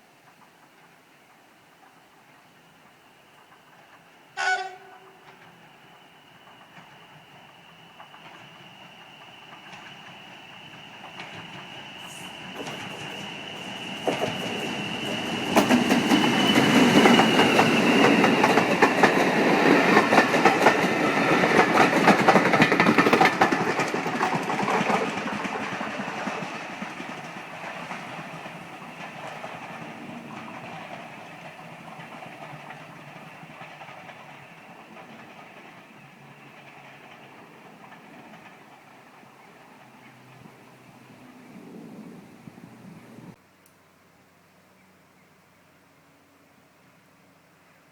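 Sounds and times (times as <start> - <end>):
train wheels clattering over rails: 0.1 - 43.4.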